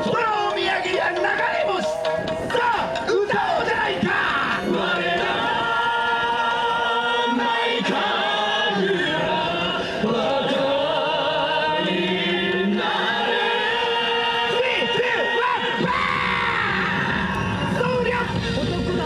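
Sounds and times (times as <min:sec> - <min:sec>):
chorus of chanting voices: 0:00.0 - 0:19.0
dance music: 0:00.0 - 0:19.0.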